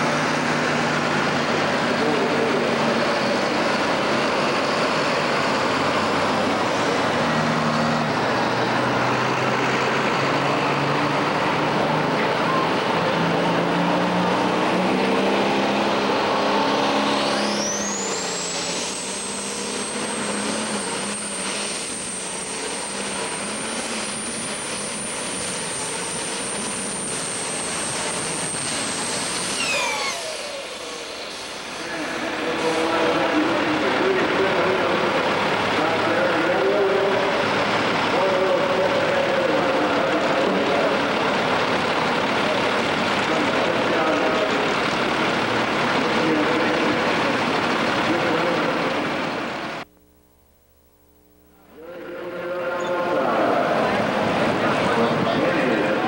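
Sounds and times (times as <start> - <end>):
tractor engine running flat out: 0.0 - 49.9, 51.7 - 56.0
high turbo whine: 0.0 - 56.0.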